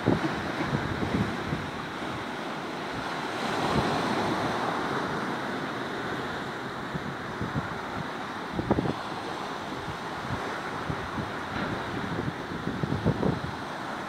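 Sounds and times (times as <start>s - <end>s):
wind buffeting microphone: 0.0s - 5.2s, 6.7s - 9.1s, 9.7s - 14.0s
sea waves breaking on shore: 0.0s - 14.0s.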